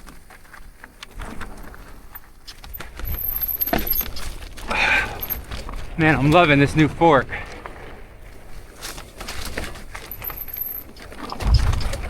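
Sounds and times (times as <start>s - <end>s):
bike knocks and rattles: 0.0s - 6.9s, 7.5s - 12.0s
tyres rumbling on dirt: 0.0s - 12.0s.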